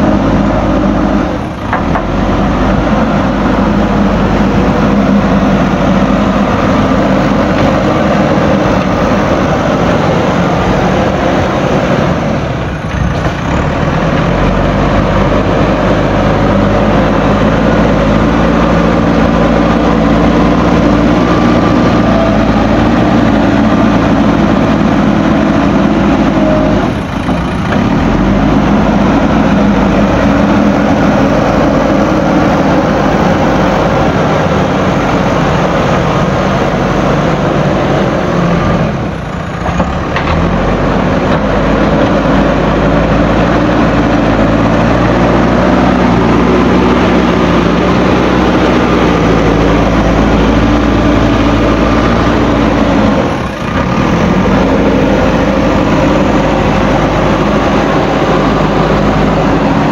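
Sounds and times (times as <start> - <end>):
diesel engine running hard: 0.0 - 59.9.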